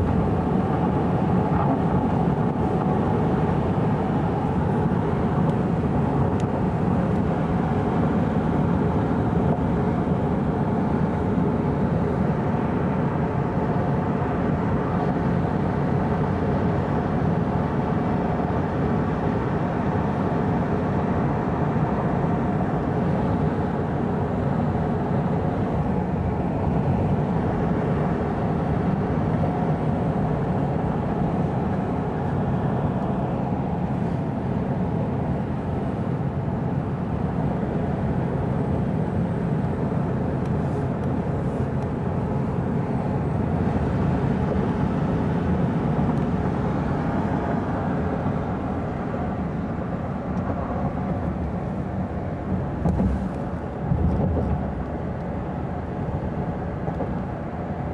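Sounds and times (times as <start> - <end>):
vehicle rumble: 0.0 - 57.9.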